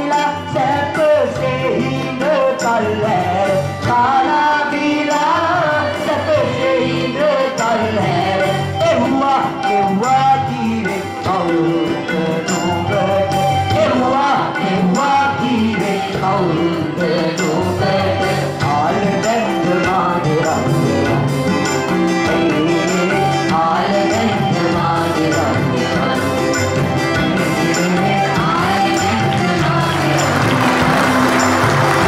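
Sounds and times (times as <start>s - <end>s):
backing track with steady beat: 0.0s - 32.0s
person singing into a microphone: 0.0s - 32.0s.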